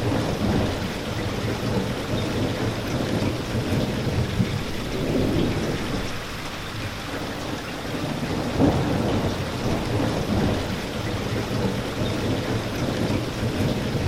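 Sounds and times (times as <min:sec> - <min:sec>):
rolling thunder rumble: 0:00.0 - 0:14.0
steady rain: 0:00.0 - 0:14.0.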